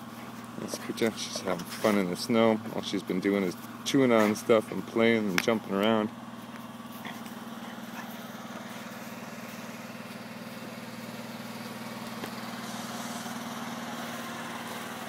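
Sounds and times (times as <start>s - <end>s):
generator engine humming: 0.0s - 15.0s.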